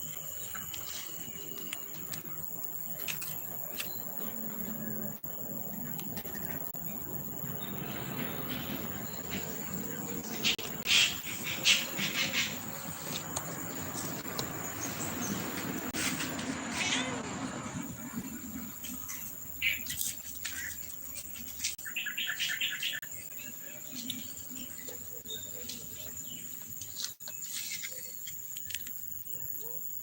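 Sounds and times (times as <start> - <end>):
background hum: 0.0 - 30.0.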